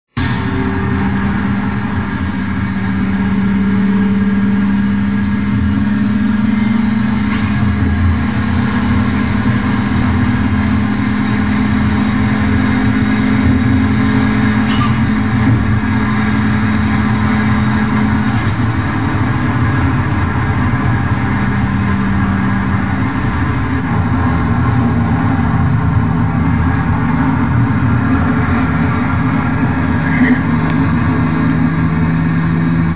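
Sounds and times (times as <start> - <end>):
road noise: 0.0 - 32.9
car engine drone in cabin: 0.1 - 32.9.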